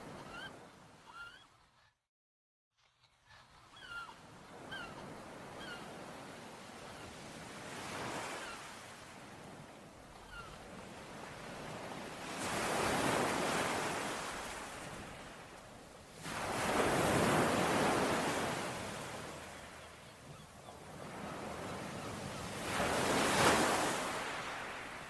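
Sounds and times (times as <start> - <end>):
ocean waves breaking: 4.2 - 25.0.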